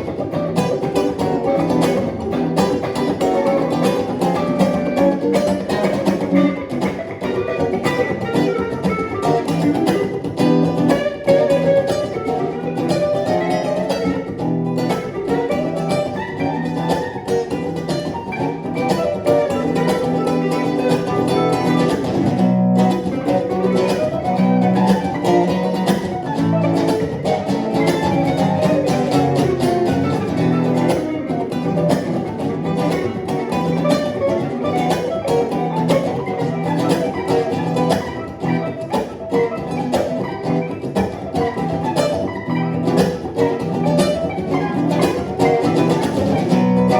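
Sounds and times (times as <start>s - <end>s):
guitars plucking quick notes: 0.0s - 46.9s
strummed guitar accompaniment: 0.0s - 46.9s.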